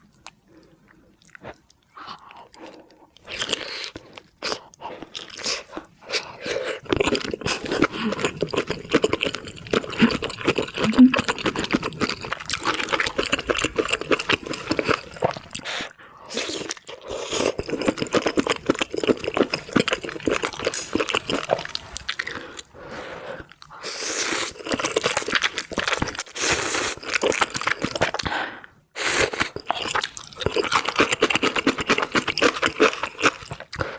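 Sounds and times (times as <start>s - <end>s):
person chewing: 0.1s - 28.3s, 29.1s - 33.9s.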